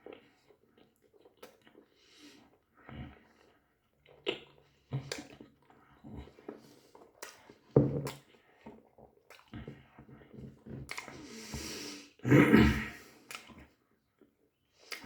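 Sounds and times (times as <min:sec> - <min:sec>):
person chewing food: 0:00.0 - 0:11.9, 0:13.0 - 0:15.0.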